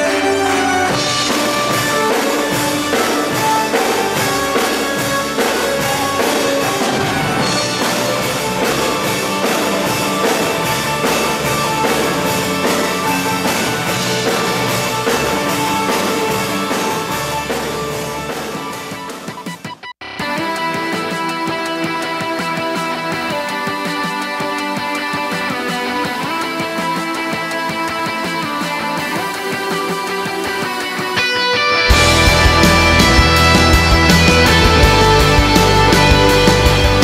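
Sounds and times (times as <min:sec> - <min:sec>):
drum kit steady beat: 0:00.0 - 0:37.0
live rock band playing: 0:00.0 - 0:37.0.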